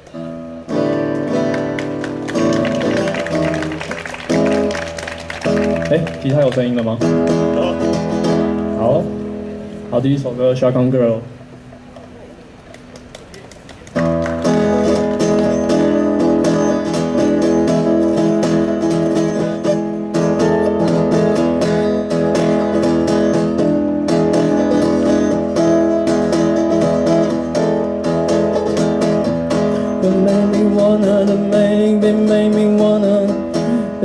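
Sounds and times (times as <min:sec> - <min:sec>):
acoustic guitar strumming chords: 0:00.0 - 0:11.6, 0:14.0 - 0:34.0.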